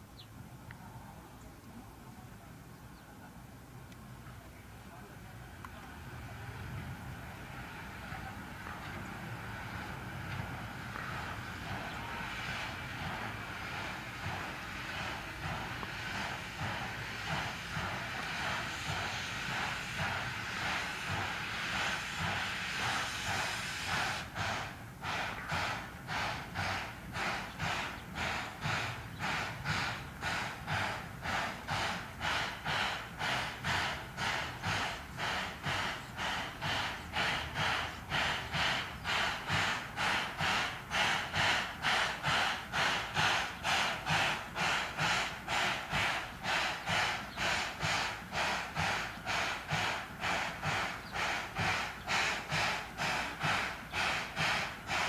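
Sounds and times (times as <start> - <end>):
steam locomotive hissing: 0.0 - 55.0
steam locomotive puffing: 6.2 - 55.0.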